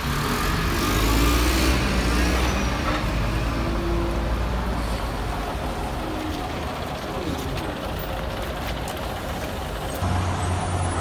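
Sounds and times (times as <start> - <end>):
bus engine rumble passing: 0.0 - 11.0.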